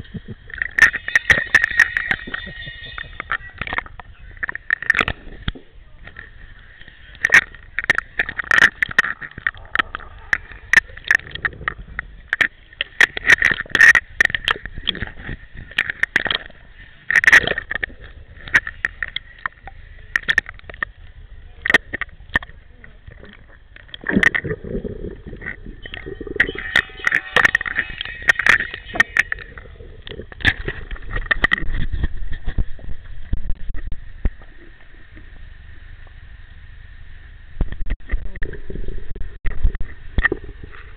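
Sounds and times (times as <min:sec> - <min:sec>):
pool water splashing against camera: 0:00.0 - 0:35.2.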